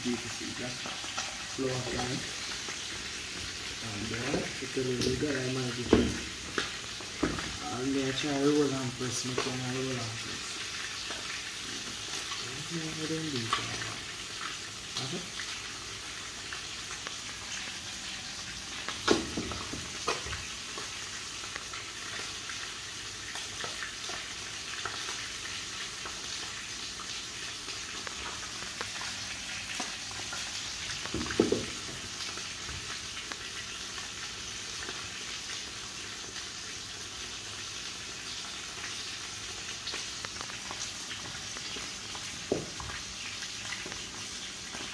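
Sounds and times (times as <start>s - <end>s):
fish sizzling in oil: 0.0s - 44.9s.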